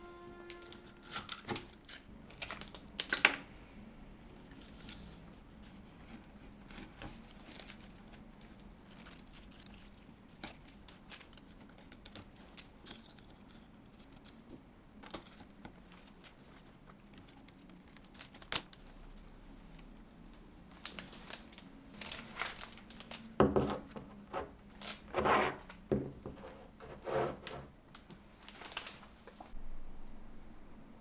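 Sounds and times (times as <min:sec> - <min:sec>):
crinkling and rustling handling: 0:04.2 - 0:29.6.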